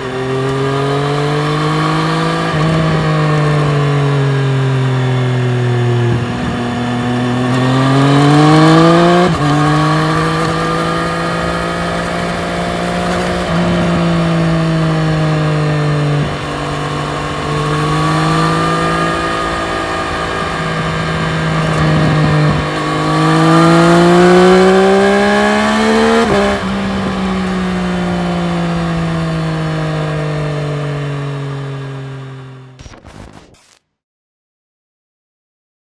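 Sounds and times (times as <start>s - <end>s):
motorcycle engine accelerating: 0.0s - 33.5s.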